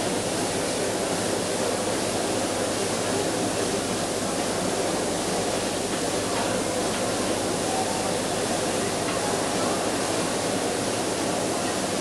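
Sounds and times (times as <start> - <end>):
crowd murmur: 0.7 - 12.0.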